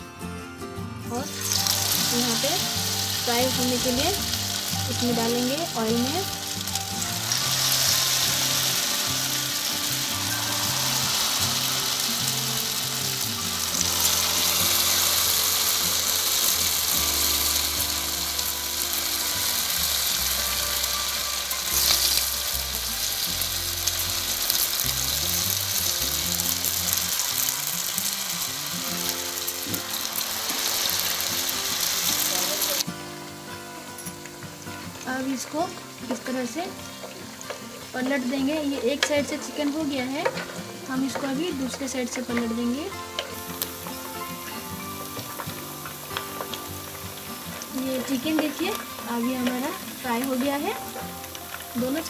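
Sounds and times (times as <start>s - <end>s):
chicken sizzling in hot oil: 1.1s - 52.0s.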